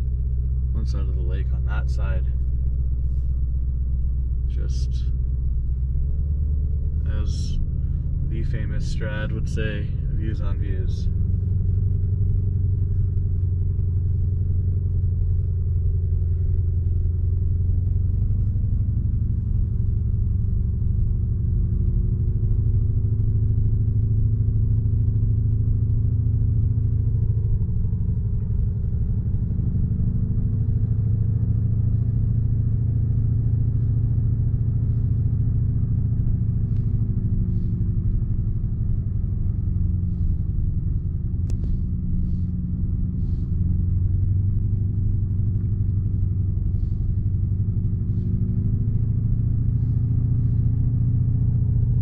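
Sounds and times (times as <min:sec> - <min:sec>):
car engine and exhaust cruising: 0:00.0 - 0:52.0.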